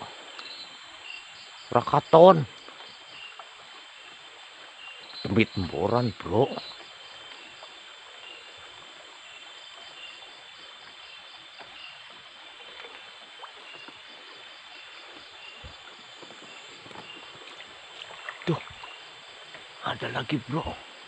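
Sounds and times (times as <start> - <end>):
stream water hiss: 0.0 - 21.0.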